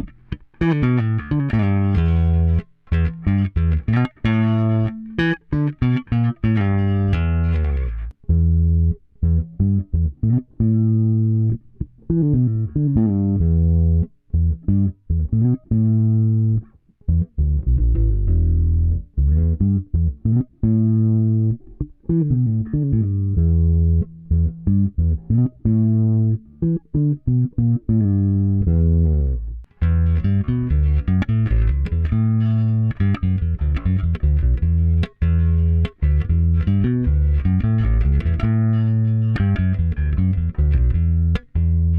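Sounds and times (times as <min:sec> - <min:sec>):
electric bass plucked notes: 0:00.0 - 0:41.9.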